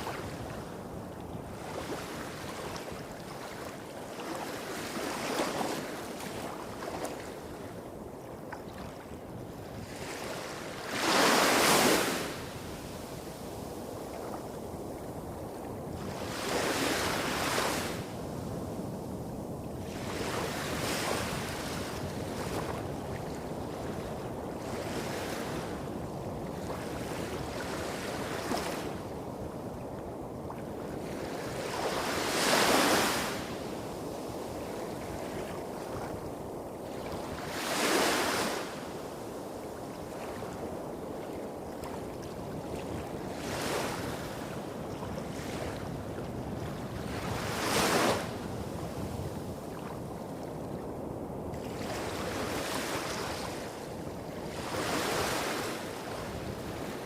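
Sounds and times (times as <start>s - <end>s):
small waves washing up shore: 0.0s - 57.0s.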